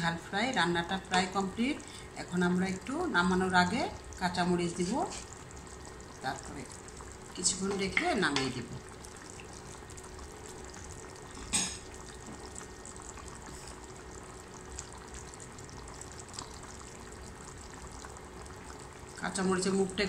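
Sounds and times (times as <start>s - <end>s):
sauce bubbling in a frying pan: 0.0s - 20.0s.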